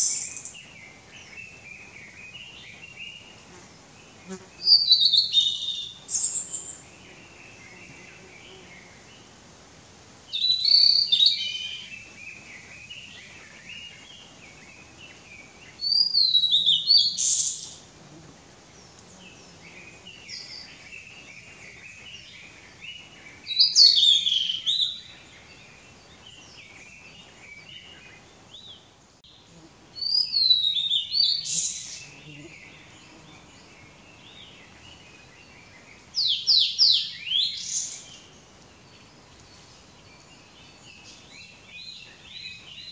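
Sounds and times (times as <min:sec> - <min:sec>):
bird song whistles and buzzy note: 0:00.0 - 0:09.3, 0:10.3 - 0:42.9
faint bird chirping: 0:00.0 - 0:09.4, 0:10.2 - 0:42.9.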